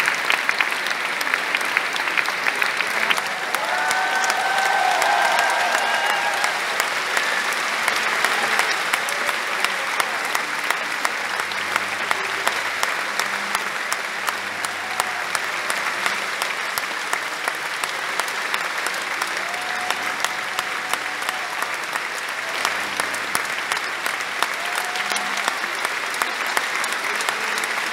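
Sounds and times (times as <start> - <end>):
audience applauding: 0.0 - 27.9.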